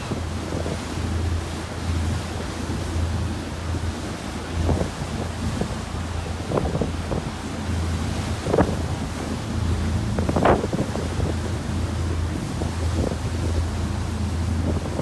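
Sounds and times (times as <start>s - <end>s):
boat engine drone: 0.0s - 15.0s
wind buffeting microphone: 0.0s - 15.0s.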